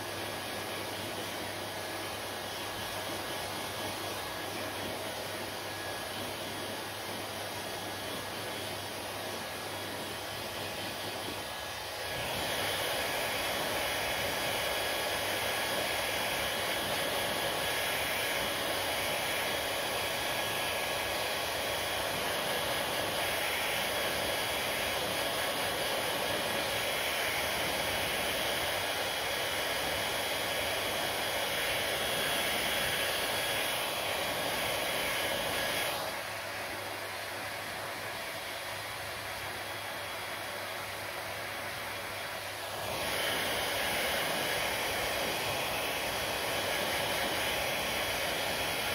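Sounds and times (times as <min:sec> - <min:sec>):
hair dryer blowing air: 0:00.0 - 0:48.9.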